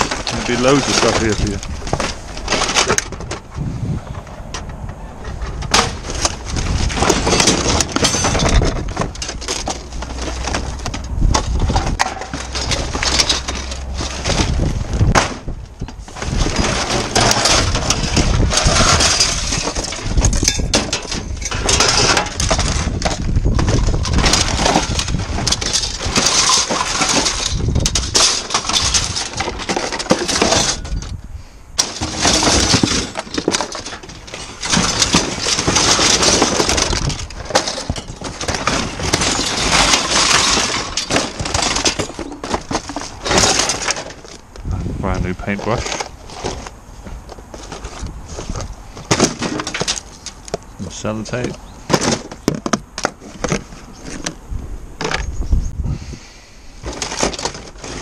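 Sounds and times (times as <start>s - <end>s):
items clattering together: 0.0s - 3.5s, 4.6s - 31.2s, 31.8s - 44.5s, 45.2s - 54.4s, 56.8s - 58.0s.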